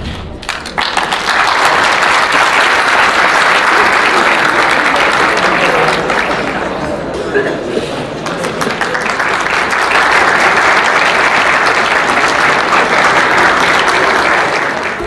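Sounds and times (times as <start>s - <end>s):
audience applauding: 0.4s - 7.2s, 7.9s - 15.0s.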